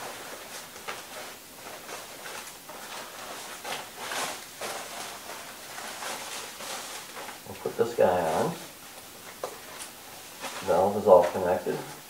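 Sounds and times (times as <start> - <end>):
plastic hood rustling: 0.0 - 12.0.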